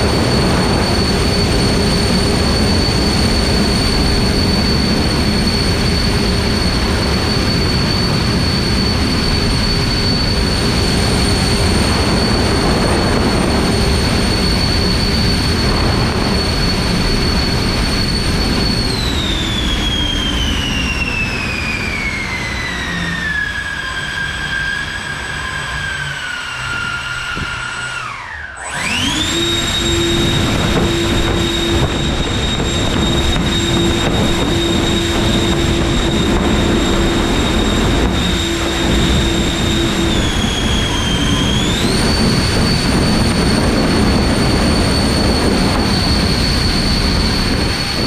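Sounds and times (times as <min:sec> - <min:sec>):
rushing air: 0:00.0 - 0:22.8, 0:25.1 - 0:48.0
electric motor whine: 0:00.0 - 0:48.0.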